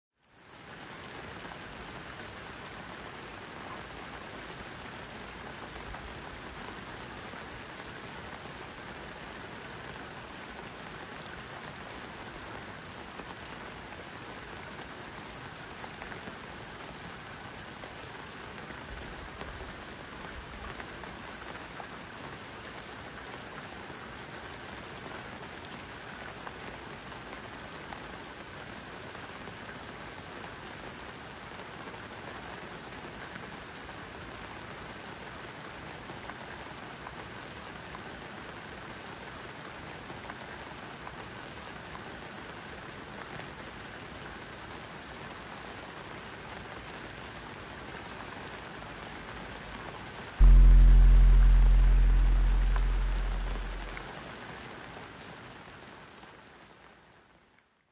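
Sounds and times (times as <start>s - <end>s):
steady rain: 0.2s - 57.9s.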